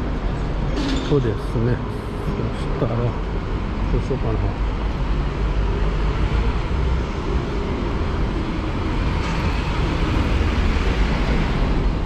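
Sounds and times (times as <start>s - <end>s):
vehicle engines: 0.0s - 12.0s.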